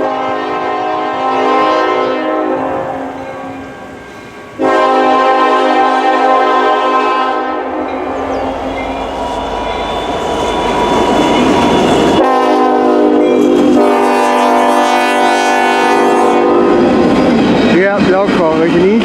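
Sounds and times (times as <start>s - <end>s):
locomotive air horn: 0.0s - 3.1s, 4.6s - 17.0s
train rumbling over rails: 0.0s - 19.0s.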